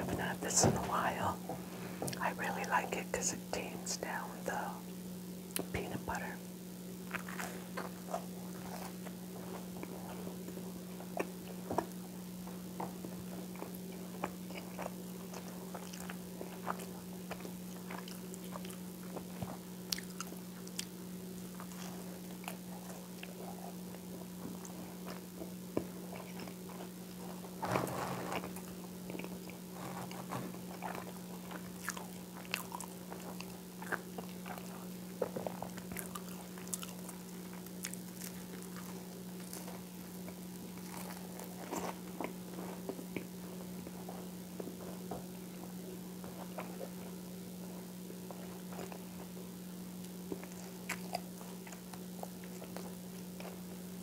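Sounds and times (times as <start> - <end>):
chewing crunchy toast: 7.0 - 54.0.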